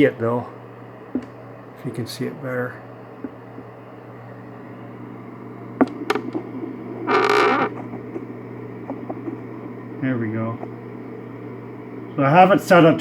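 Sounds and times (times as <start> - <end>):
electrical appliance hum: 0.0 - 13.0.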